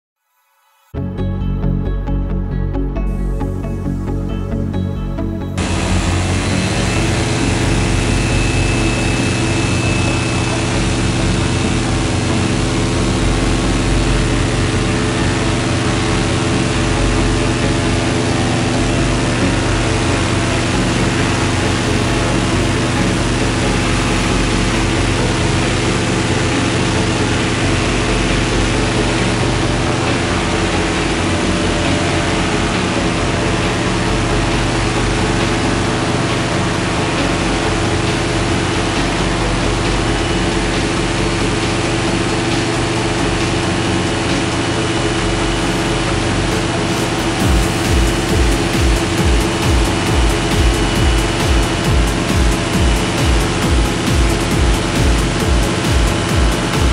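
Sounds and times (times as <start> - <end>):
paramotor engine and propeller: 5.6 - 56.9.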